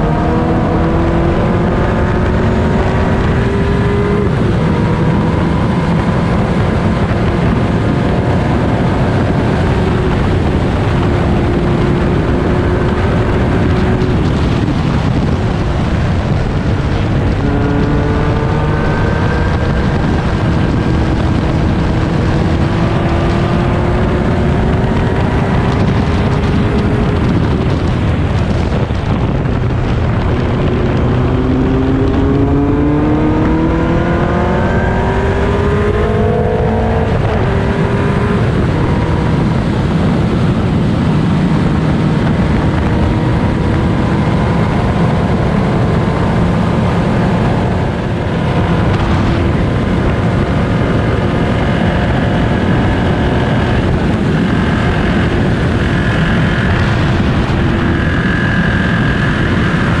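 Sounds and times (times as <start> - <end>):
racing car engine: 0.0 - 60.0
road noise: 0.0 - 60.0
wind noise: 0.0 - 60.0.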